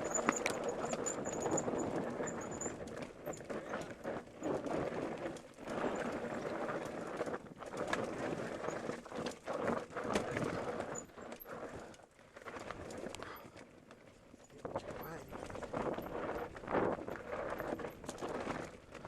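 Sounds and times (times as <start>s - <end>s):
bike rattling: 0.0s - 19.0s.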